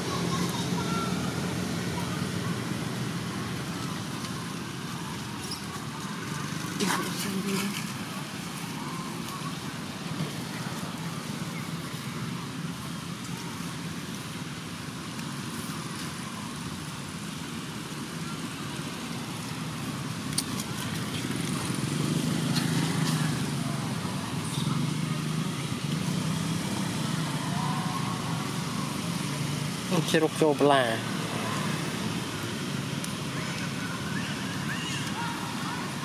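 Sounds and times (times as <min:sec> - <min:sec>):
low engine-like hum: 0:00.0 - 0:36.0.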